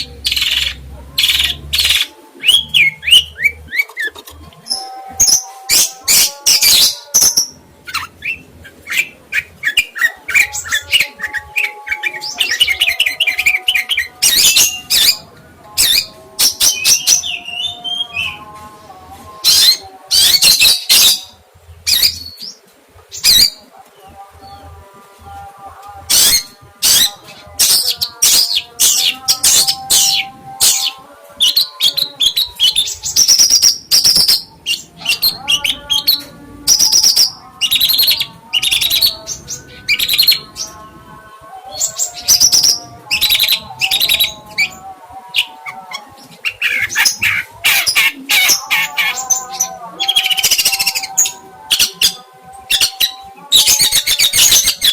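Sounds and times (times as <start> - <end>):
songbird chirping and whistling: 0.0 - 18.6, 19.4 - 24.7, 26.1 - 40.8, 41.4 - 54.9
quiet melodic background music: 0.0 - 54.9.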